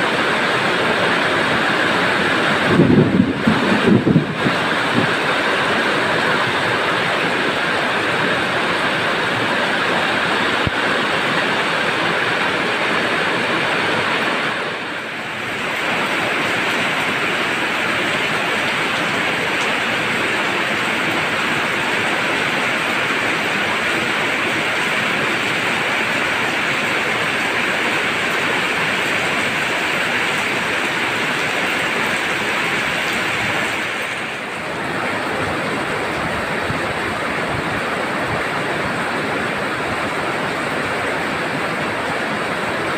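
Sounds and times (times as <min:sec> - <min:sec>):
heavy rain hissing: 0:00.0 - 0:42.9.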